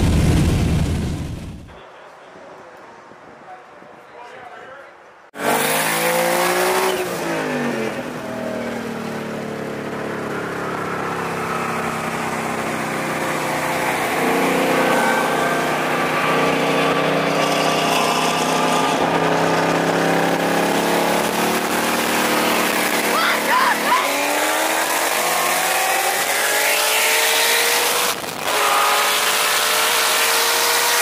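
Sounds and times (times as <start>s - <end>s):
race car engines accelerating: 5.4s - 31.0s.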